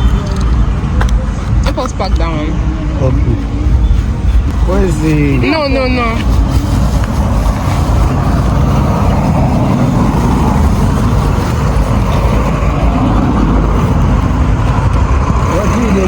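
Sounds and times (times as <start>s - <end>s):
loud low outdoor rumble: 0.0s - 16.0s.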